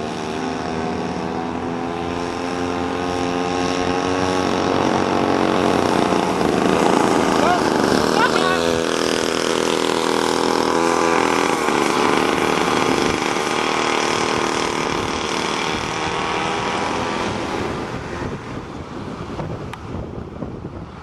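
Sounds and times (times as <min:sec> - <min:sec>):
chainsaw engine running: 0:00.0 - 0:19.4.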